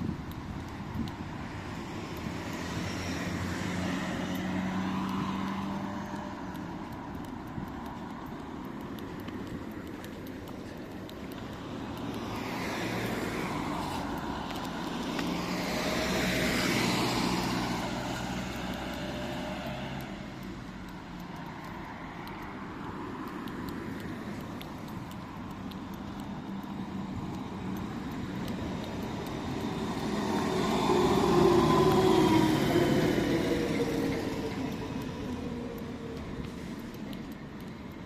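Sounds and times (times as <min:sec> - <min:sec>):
road vehicle passing by: 0:00.9 - 0:38.0.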